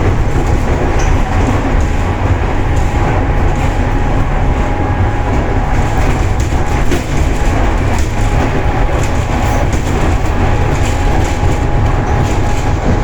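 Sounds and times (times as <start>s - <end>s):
train carriage rumble: 0.0s - 13.0s
wheels clicking on track: 0.0s - 13.0s.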